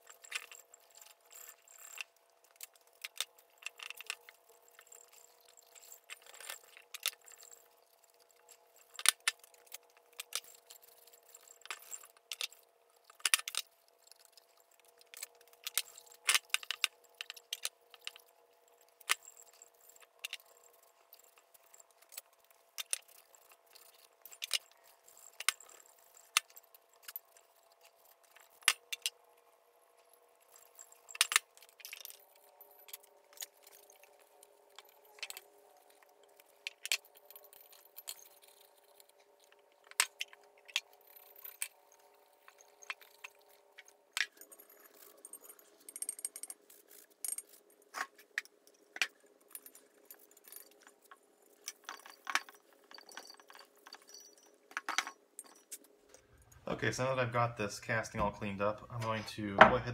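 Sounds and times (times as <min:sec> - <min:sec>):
clinks and knocks of metal handling: 0:00.0 - 0:56.7
faint steady hum: 0:00.0 - 0:59.9.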